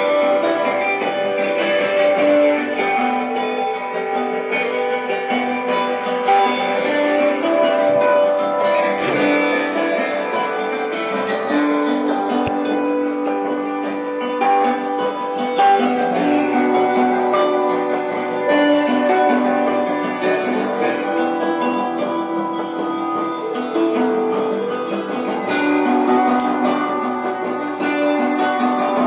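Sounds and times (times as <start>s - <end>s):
guitar plucked and strummed: 0.0s - 29.0s.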